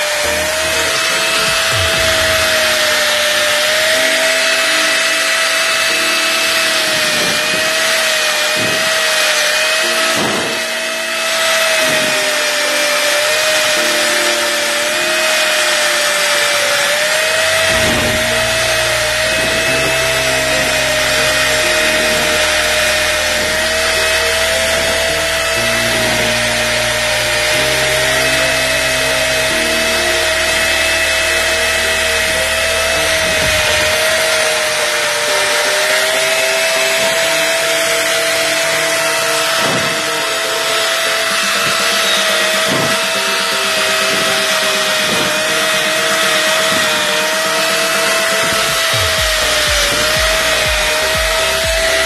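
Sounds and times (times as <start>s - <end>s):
angle grinder grinding metal: 0.0s - 52.0s.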